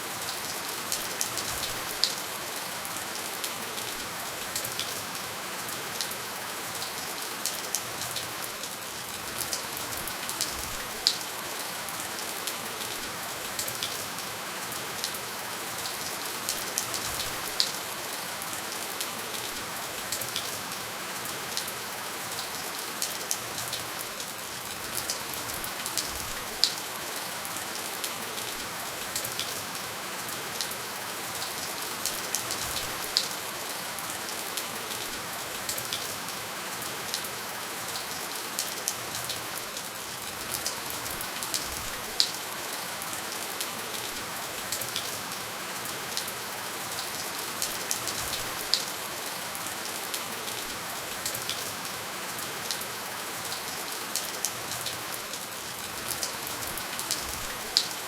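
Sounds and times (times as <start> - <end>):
gentle rain hiss: 0.0 - 58.0
raindrops ticking on surface: 0.1 - 58.0.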